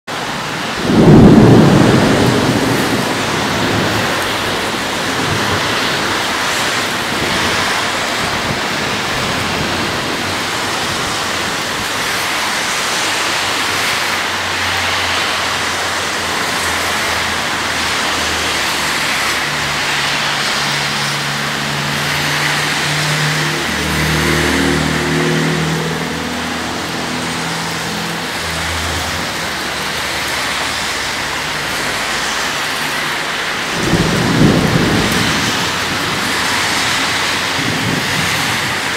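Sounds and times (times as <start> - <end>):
steady rain: 0.1 - 38.9
thunder clap rumbling: 0.3 - 38.9.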